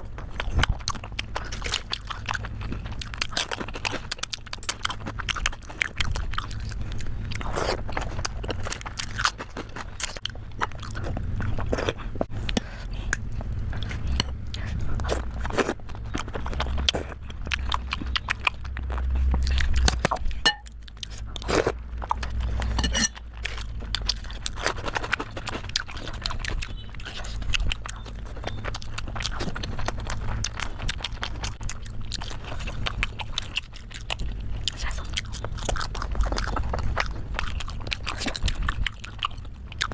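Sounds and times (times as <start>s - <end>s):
chewing dumplings: 0.0s - 39.9s.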